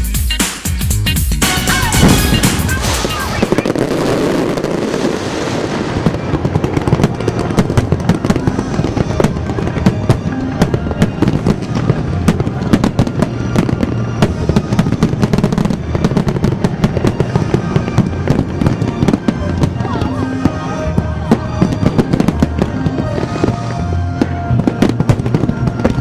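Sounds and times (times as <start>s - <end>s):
music playing: 0.0s - 4.9s, 5.7s - 26.0s
fireworks cracking and popping: 1.4s - 26.0s.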